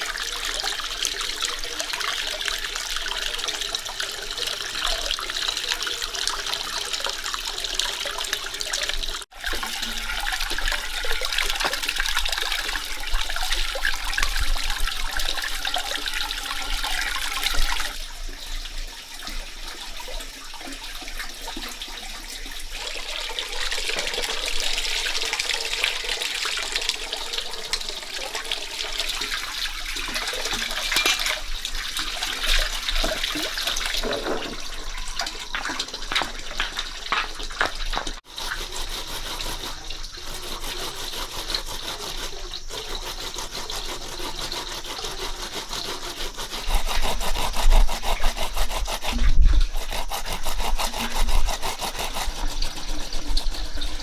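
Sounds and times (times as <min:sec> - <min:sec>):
running splashing water: 0:00.0 - 0:54.0.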